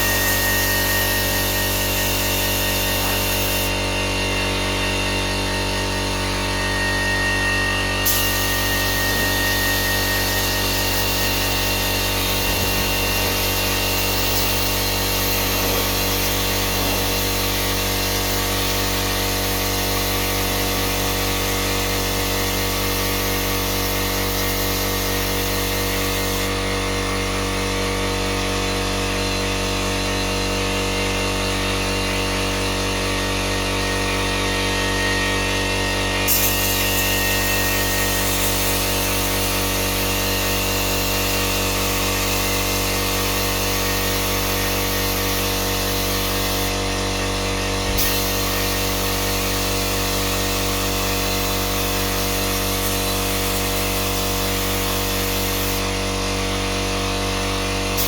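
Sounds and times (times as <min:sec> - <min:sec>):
electric power tool running: 0:00.0 - 0:58.0.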